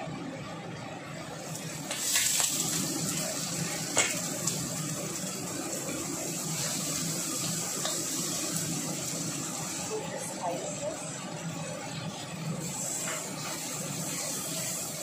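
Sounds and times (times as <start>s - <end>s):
food hissing and bubbling in a wok: 0.1s - 15.0s.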